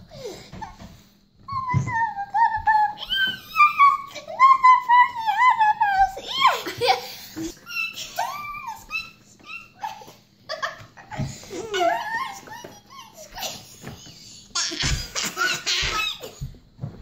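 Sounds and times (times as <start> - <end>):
girls giggling and squealing: 1.5 - 16.5.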